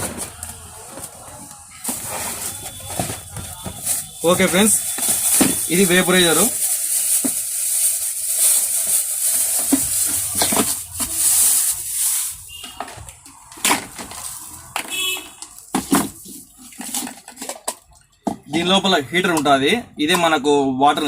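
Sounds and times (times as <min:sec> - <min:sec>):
packaging rustling and crinkling: 0:00.0 - 0:17.8.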